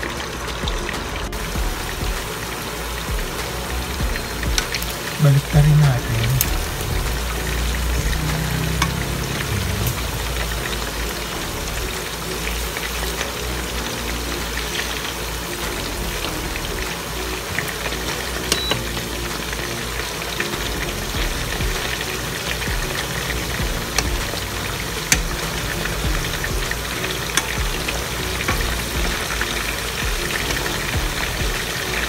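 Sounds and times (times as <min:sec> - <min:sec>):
food deep-frying in oil: 0:00.0 - 0:32.0
soft background music: 0:00.0 - 0:32.0.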